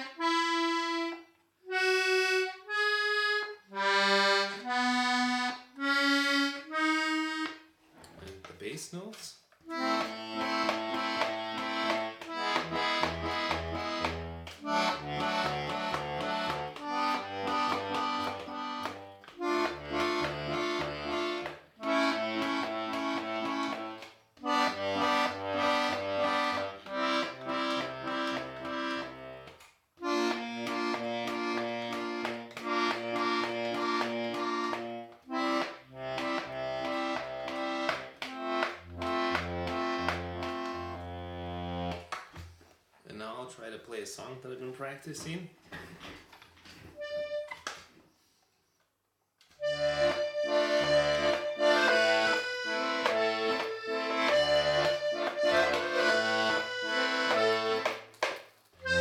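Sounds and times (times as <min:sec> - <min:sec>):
accordion bass notes and chords: 0:00.0 - 0:07.9, 0:09.6 - 0:42.2, 0:47.0 - 0:47.8, 0:49.5 - 0:58.2, 0:58.8 - 0:59.0.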